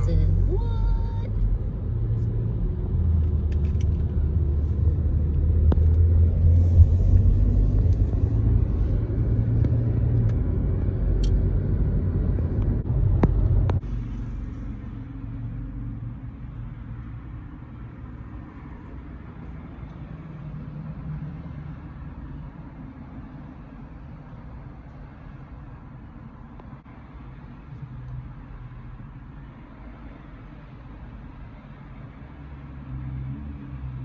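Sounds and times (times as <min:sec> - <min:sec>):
low vehicle rumble: 0:00.0 - 0:27.6.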